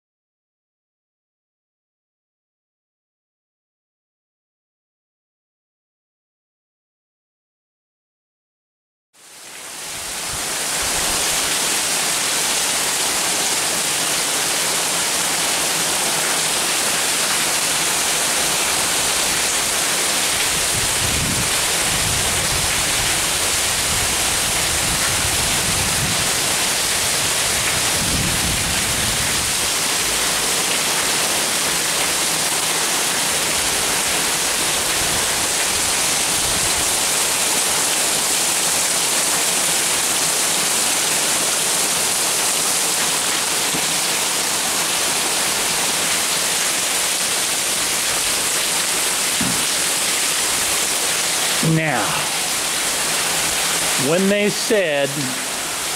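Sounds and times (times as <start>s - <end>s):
heavy rain pouring: 9.2s - 55.9s.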